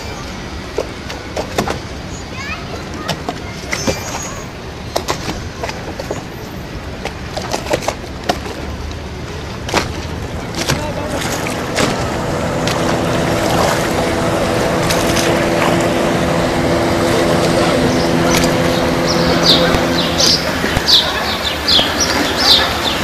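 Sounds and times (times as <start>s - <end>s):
boat engine humming: 0.0s - 23.0s
knocks and clicks on a boat: 0.6s - 23.0s.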